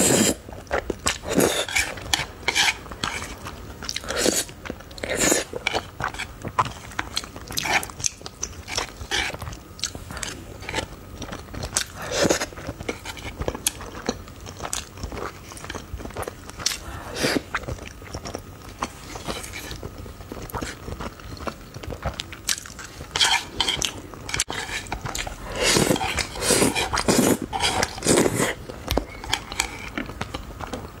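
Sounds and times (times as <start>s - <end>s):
chewing noodles: 0.0s - 31.0s.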